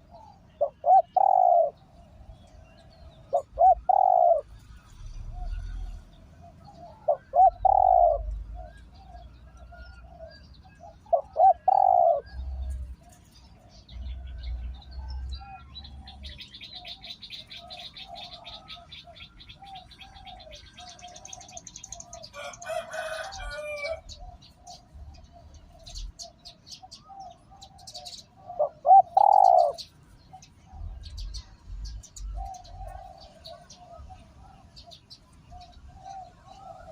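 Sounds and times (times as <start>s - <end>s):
dove cooing: 0.0s - 36.9s
small birds chirping: 0.0s - 36.9s.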